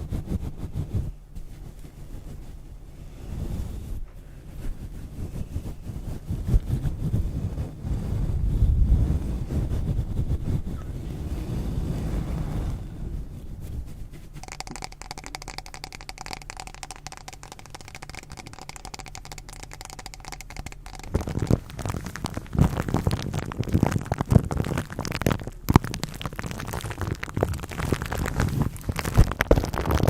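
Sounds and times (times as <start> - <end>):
fine crackling and clicking: 4.8 - 30.0.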